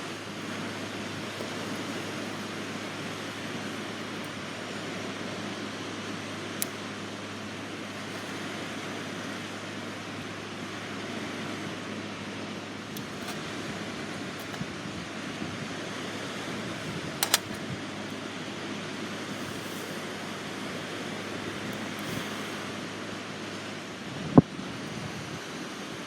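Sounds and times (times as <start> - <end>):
surf washing on shore: 0.0 - 26.0
wind: 0.0 - 26.0.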